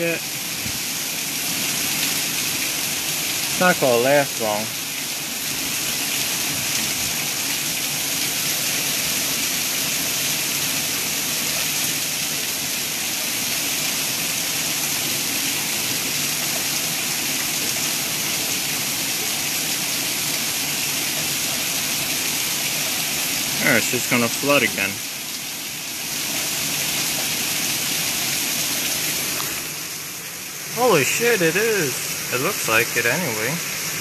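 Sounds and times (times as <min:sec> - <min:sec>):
torrential rain pouring: 0:00.0 - 0:34.0.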